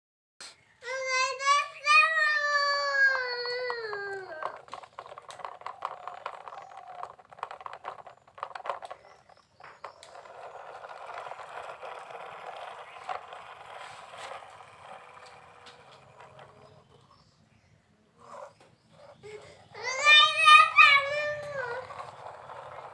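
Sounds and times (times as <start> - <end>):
plastic toy vehicles clicking: 0.9 - 17.3, 18.2 - 22.9.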